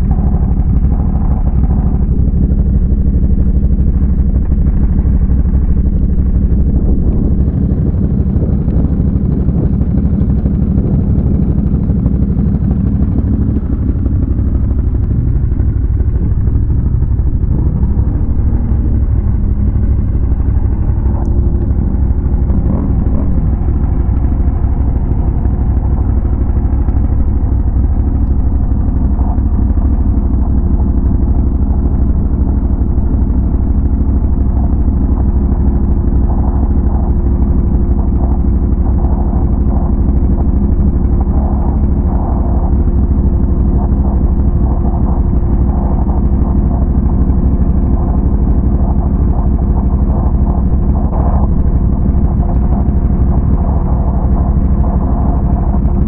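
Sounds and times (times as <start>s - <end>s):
atv engine running: 0.0s - 56.0s
higher steady tone: 4.7s - 56.0s.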